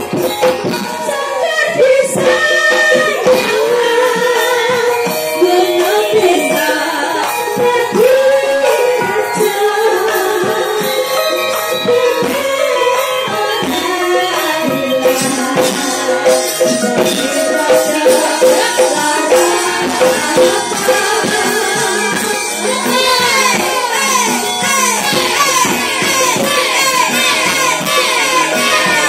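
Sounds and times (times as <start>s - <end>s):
women singing through microphones: 0.0s - 29.0s.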